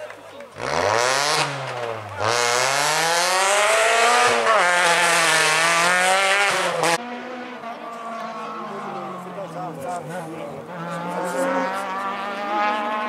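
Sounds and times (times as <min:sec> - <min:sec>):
rally car engine revving: 0:00.5 - 0:13.0.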